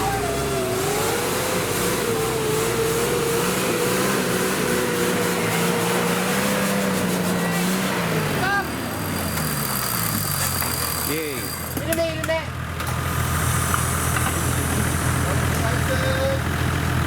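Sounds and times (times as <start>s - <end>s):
engine at high revs: 0.0s - 12.0s, 12.8s - 17.0s.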